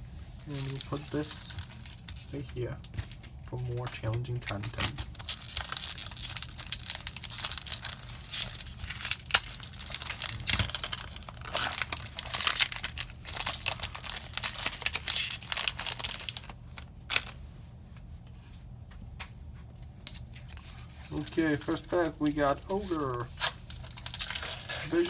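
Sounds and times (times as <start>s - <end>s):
foil wrapper tearing and crinkling: 0.4s - 17.4s, 20.1s - 25.0s.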